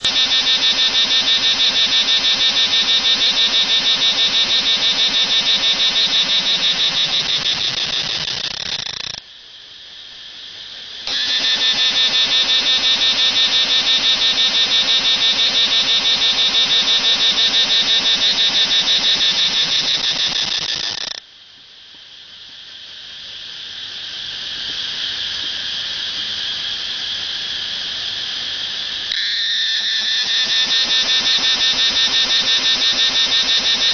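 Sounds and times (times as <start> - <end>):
cicada buzzing: 0.0 - 21.3, 22.2 - 33.9.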